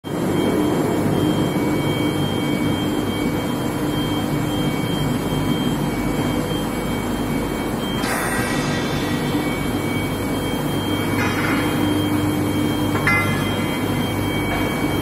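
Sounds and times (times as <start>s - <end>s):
high-pitched machine whine: 0.1s - 15.0s
machinery hum and rumble: 0.1s - 15.0s.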